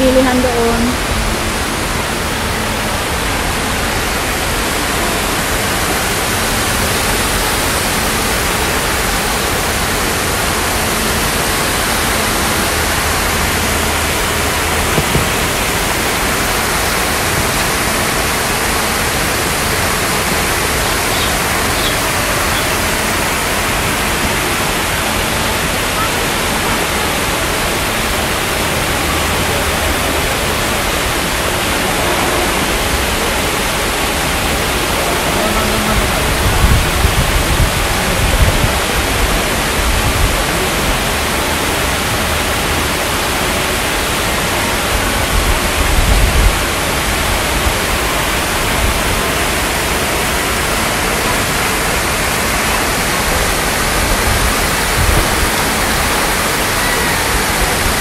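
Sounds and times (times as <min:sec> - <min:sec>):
waterfall splashing into pond: 0:00.0 - 0:58.0.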